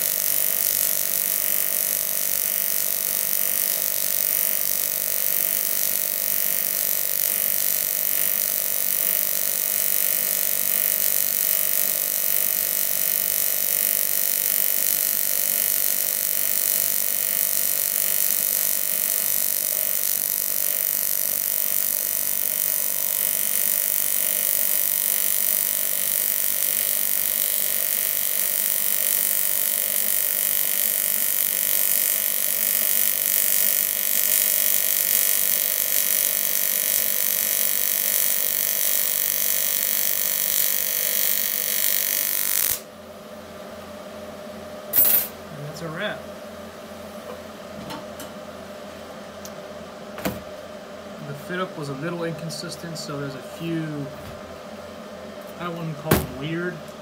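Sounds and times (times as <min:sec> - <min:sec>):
welding arc buzzing hiss: 0:00.0 - 0:57.0.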